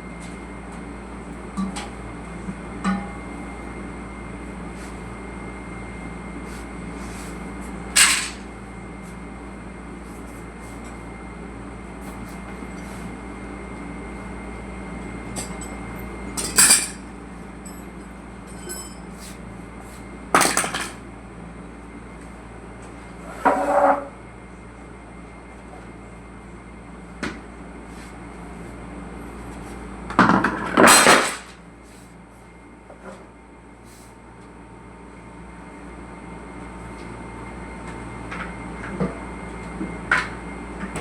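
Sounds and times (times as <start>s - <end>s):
steady hum with high whine: 0.0s - 41.0s.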